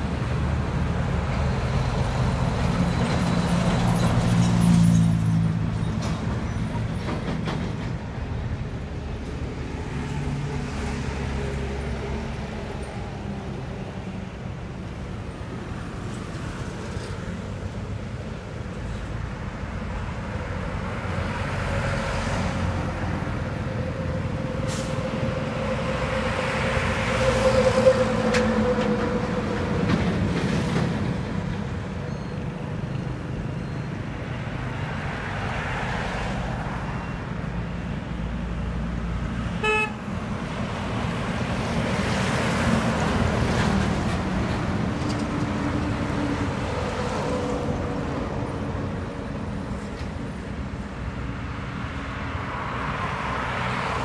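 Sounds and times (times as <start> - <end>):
steady road rumble: 0.0 - 54.0
trucks and cars passing: 0.0 - 54.0.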